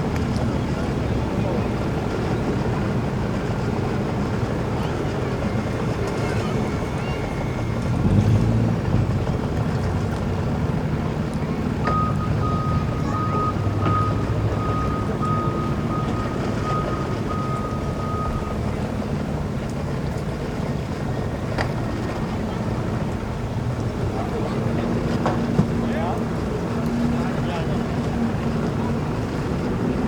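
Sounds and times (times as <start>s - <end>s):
engines idling: 0.0s - 30.0s.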